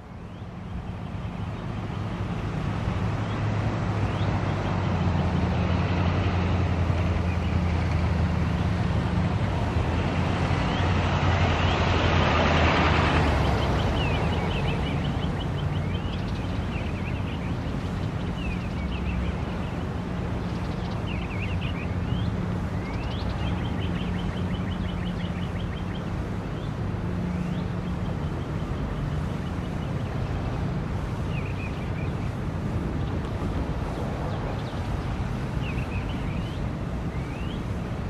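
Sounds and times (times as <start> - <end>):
songbird chirping: 0.0 - 8.8, 9.4 - 38.0
low engine rumble: 0.0 - 38.0.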